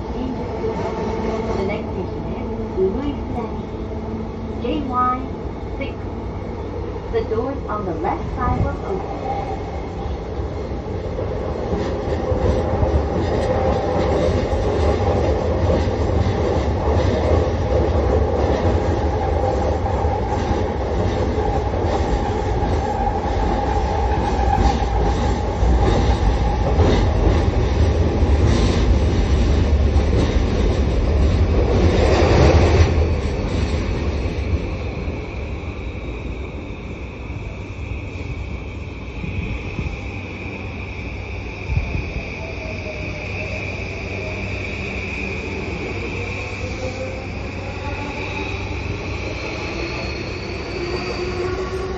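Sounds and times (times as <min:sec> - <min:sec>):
steady train whine: 0:00.0 - 0:51.9
train wheels rumbling: 0:00.0 - 0:51.9.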